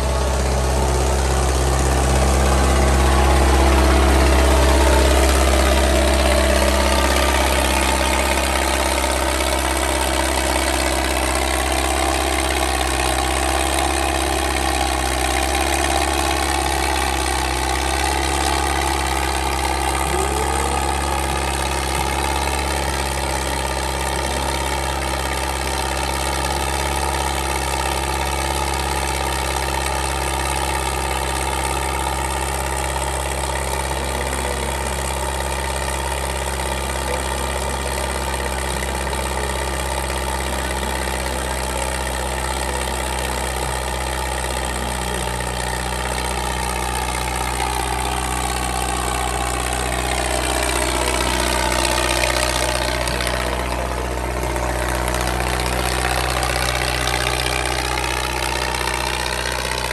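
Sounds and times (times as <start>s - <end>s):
tractor diesel engine revving: 0.0s - 59.9s.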